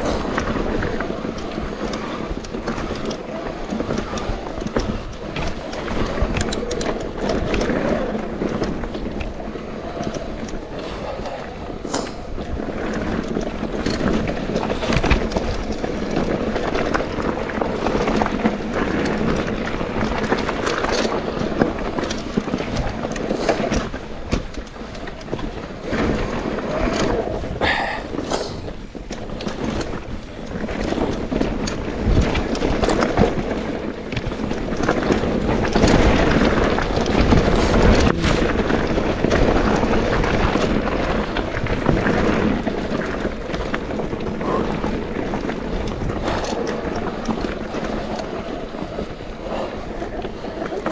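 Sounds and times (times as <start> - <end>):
bike clattering over bumps: 0.0 - 50.9
bike tyres rolling over gravel: 0.0 - 50.9
wind on camera mic: 0.0 - 50.9.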